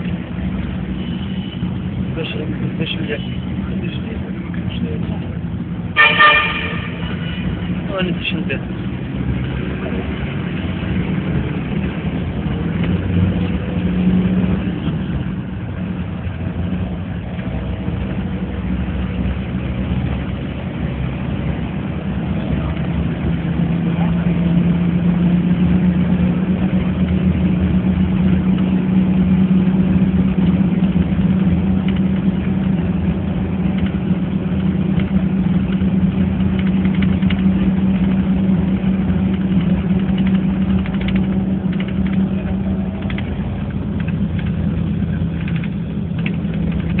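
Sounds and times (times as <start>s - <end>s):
vehicle engine and road drone: 0.0s - 47.0s.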